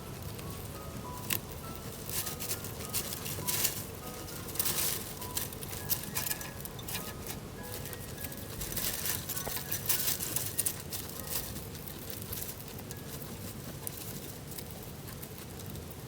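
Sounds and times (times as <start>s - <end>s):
chinchilla scratchy clicks and patter: 0.0s - 16.0s.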